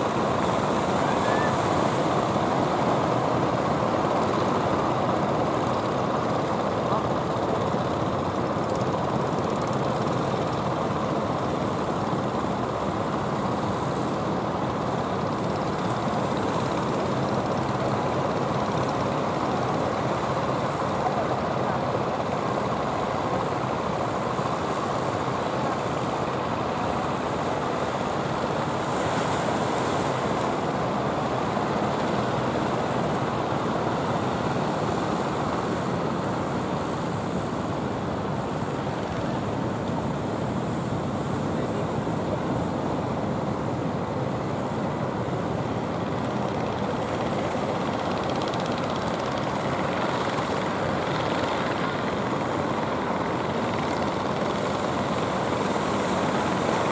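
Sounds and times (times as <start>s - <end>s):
fishing boat engines: 0.0s - 56.9s
wind: 0.0s - 56.9s.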